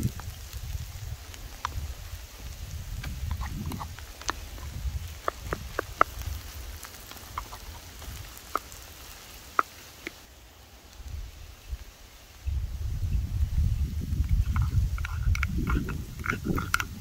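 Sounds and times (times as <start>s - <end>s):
wind rumble on microphone: 0.0s - 9.1s, 10.9s - 17.0s.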